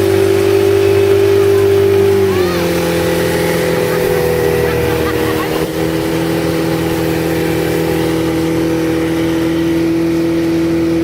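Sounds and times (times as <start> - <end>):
motorboat engine drone: 0.0 - 11.0.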